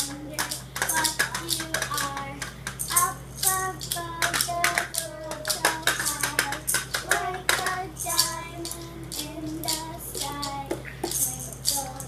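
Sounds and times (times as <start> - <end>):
hand percussion beat: 0.0 - 12.0.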